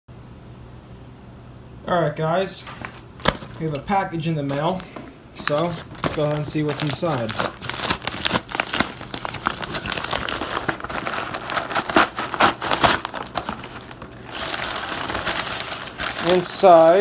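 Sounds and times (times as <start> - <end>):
packaging crinkling and rustling: 2.6 - 17.0.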